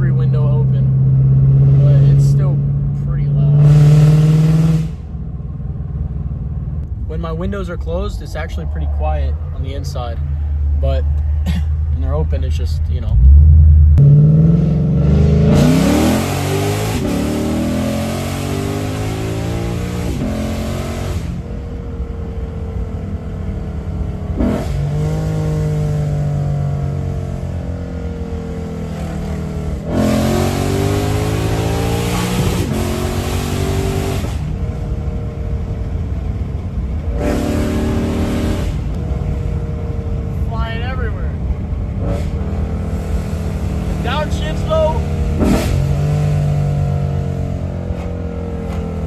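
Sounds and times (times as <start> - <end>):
car engine accelerating hard: 0.0 - 49.0.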